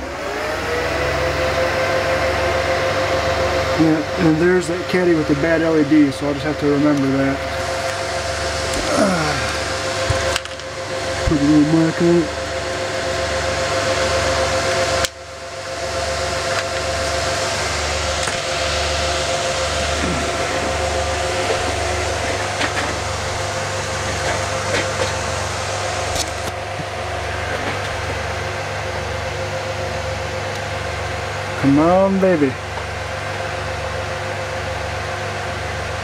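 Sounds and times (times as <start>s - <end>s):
cooling fans whooshing: 0.0s - 36.0s
low pulsing hum: 0.0s - 36.0s.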